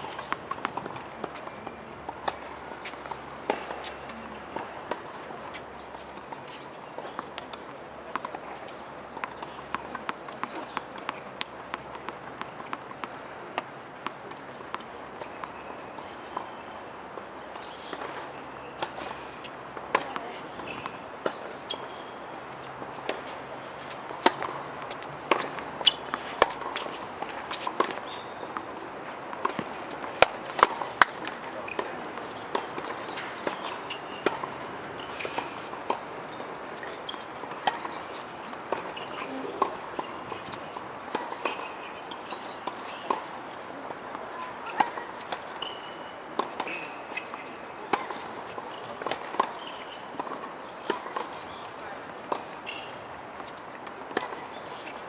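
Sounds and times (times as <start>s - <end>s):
tennis balls struck and bouncing: 0.0s - 55.0s.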